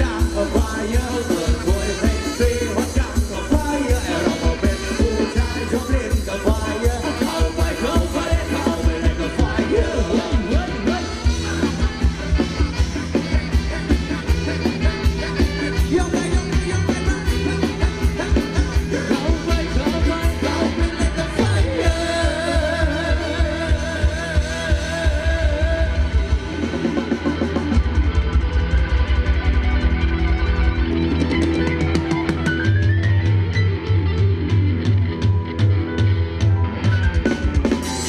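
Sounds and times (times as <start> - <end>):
pounding drum beat: 0.0 - 33.2
live band playing dance music: 0.0 - 38.0.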